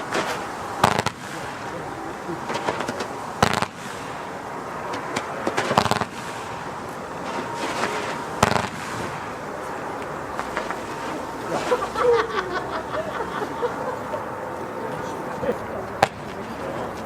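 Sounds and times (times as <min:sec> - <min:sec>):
firework crackling: 0:00.0 - 0:17.0
firework sharp bangs: 0:00.0 - 0:17.0.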